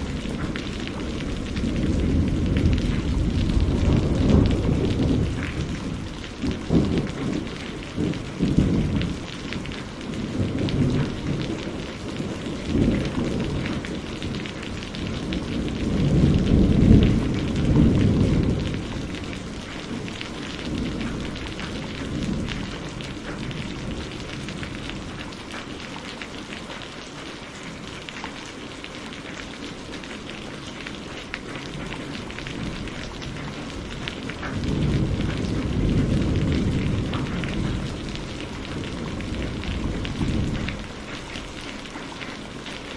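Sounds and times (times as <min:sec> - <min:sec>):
rolling thunder: 0:00.0 - 0:25.2, 0:31.5 - 0:41.5
steady rain: 0:00.0 - 0:42.9.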